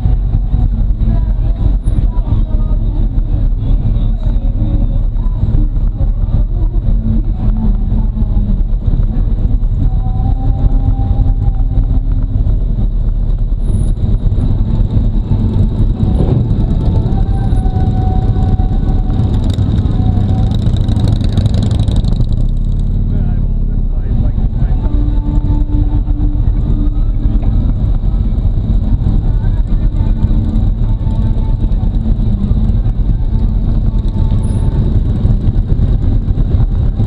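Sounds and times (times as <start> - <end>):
motorcycle engine rumbling: 0.0 - 37.0.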